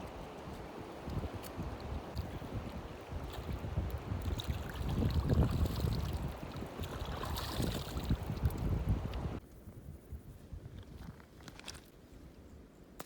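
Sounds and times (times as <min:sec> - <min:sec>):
wind rumbling on microphone: 0:00.0 - 0:12.7.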